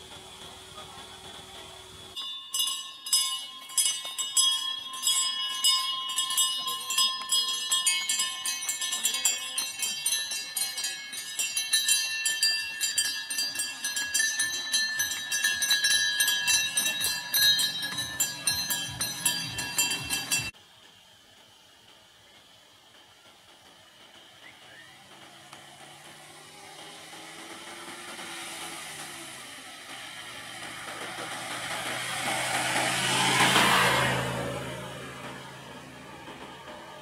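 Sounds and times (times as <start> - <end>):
small bells jingling: 1.6 - 20.6, 25.1 - 37.0.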